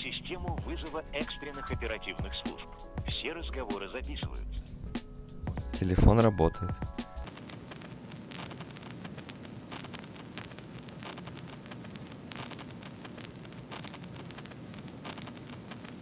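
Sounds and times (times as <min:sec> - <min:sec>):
crackling static hiss: 0:00.0 - 0:16.0.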